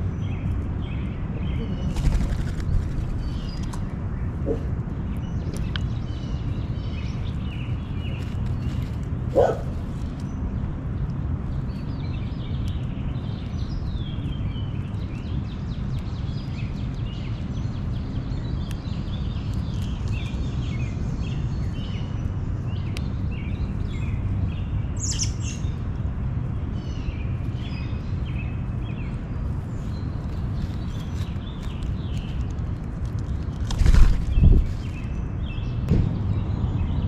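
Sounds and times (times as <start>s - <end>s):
small birds chirping: 0.0s - 37.0s
steady low rumble: 0.0s - 37.0s.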